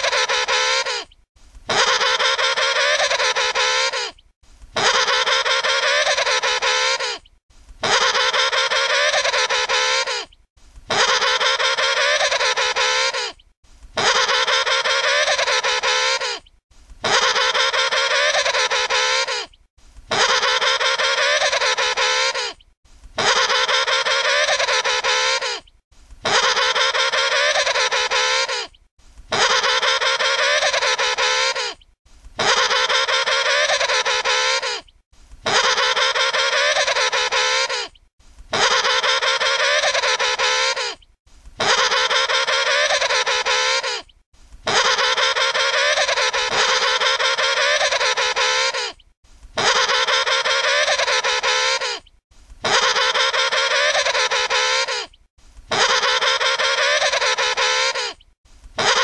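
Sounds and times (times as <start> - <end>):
penguin trumpeting call: 0.0 - 1.1, 1.7 - 4.2, 4.8 - 7.2, 7.8 - 10.3, 10.9 - 13.4, 14.0 - 16.4, 17.0 - 19.5, 20.1 - 22.6, 23.2 - 25.6, 26.2 - 28.7, 29.3 - 31.8, 32.4 - 34.8, 35.4 - 37.9, 38.5 - 41.0, 41.6 - 44.0, 44.7 - 49.0, 49.6 - 52.0, 52.6 - 55.1, 55.7 - 58.2, 58.8 - 59.0.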